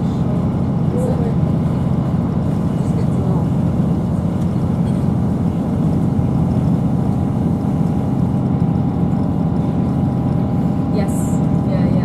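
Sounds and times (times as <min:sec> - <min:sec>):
diesel engine rumble: 0:00.0 - 0:12.0
train wheels on rails: 0:00.0 - 0:12.0.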